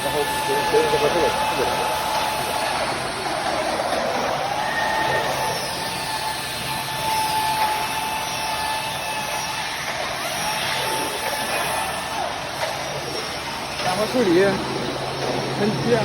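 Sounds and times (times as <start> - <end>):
factory machinery whirring: 0.0 - 16.0
high machine whine: 0.0 - 16.0.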